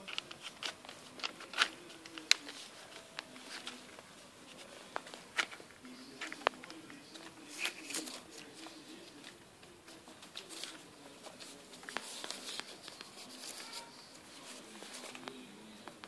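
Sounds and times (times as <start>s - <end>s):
claws scratching paper: 0.0s - 15.3s
paper crinkling and rustling: 0.0s - 16.0s.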